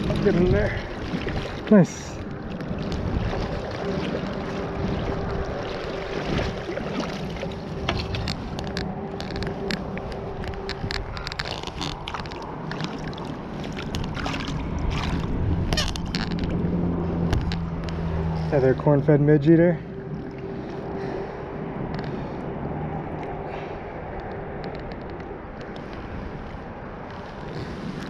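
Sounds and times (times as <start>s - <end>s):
river current swirling around legs: 0.0s - 18.8s, 19.8s - 28.0s
small splashes and ticks: 0.0s - 19.2s, 19.8s - 22.5s, 23.1s - 28.0s.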